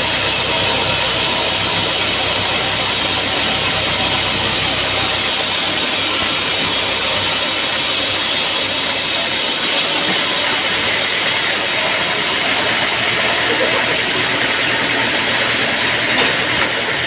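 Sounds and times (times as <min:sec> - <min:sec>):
machinery running loudly: 0:00.0 - 0:17.0.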